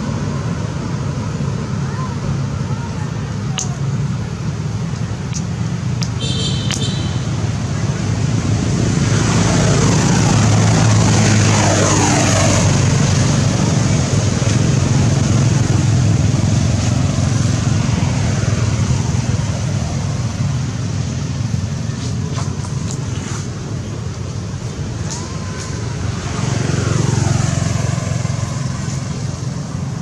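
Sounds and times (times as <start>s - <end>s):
loud engine drone: 0.0s - 30.0s.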